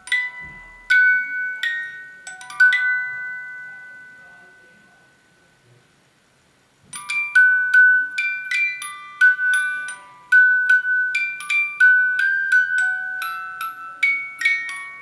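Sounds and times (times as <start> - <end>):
music box tune: 0.0 - 5.5, 7.0 - 15.0.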